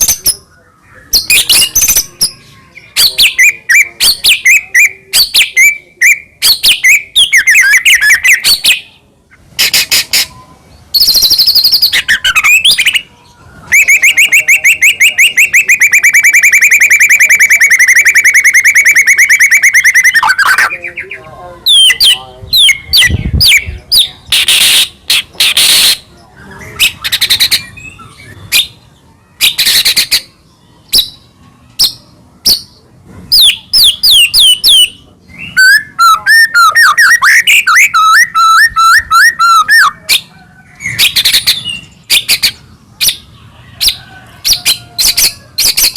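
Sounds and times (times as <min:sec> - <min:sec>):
bird singing varied song: 0:00.0 - 0:45.9.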